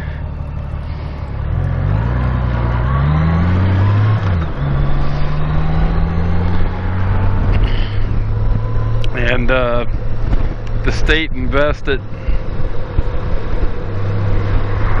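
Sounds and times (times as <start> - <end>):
motorcycle engine revving: 0.0 - 15.0
wind and road noise: 0.0 - 15.0.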